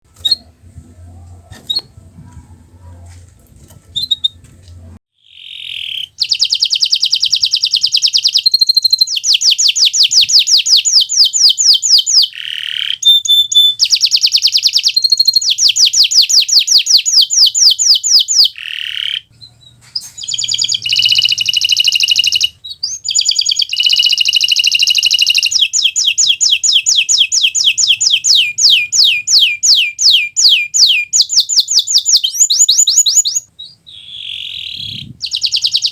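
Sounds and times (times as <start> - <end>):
canary singing trills: 3.9 - 4.4, 5.2 - 35.9.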